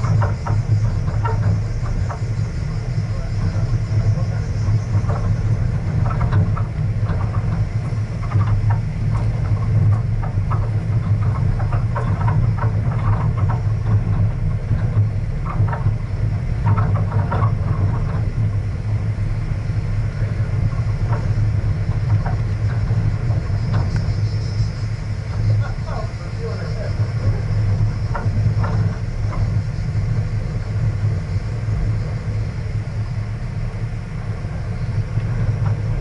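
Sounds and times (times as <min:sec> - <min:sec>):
stones clicking under tyres: 0:00.0 - 0:31.2
engine and road rumble: 0:00.0 - 0:36.0.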